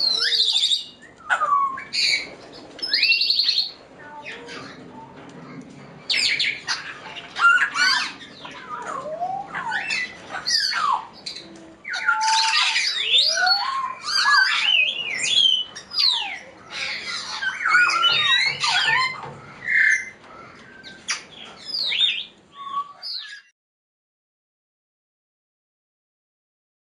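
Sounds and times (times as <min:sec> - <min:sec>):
parrots squawking and whistling: 0:00.0 - 0:04.8, 0:06.1 - 0:23.5.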